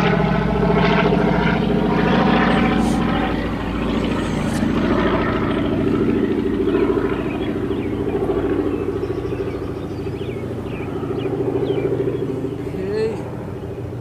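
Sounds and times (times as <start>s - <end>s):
bees buzzing: 1.6s - 14.0s.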